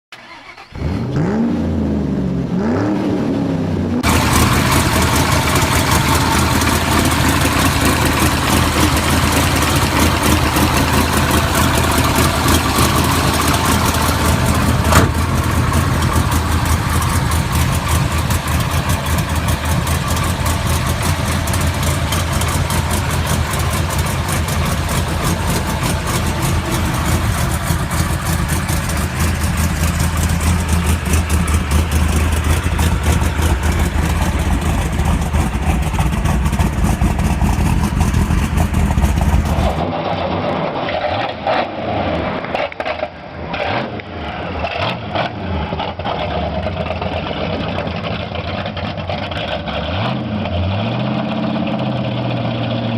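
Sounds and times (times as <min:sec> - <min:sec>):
engine rumbling loudly: 0:00.1 - 0:40.4, 0:44.0 - 0:52.9.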